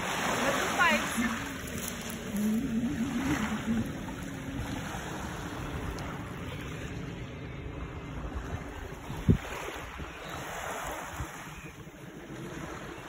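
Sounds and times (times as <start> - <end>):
sea water lapping: 0.0 - 13.0.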